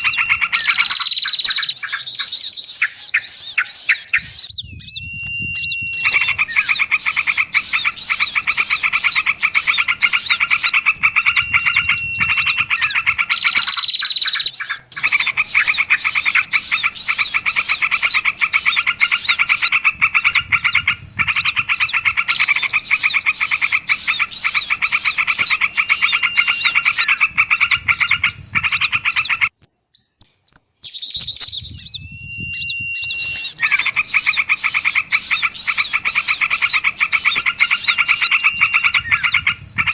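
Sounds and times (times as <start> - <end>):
rising bird whistle: 0.0 - 39.9
songbirds chirping and chattering: 0.0 - 39.9.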